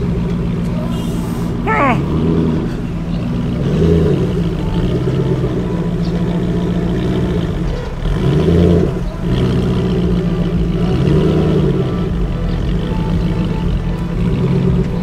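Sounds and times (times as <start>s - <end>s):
car engine idling: 0.0s - 15.0s
engine throttle blips: 0.0s - 15.0s.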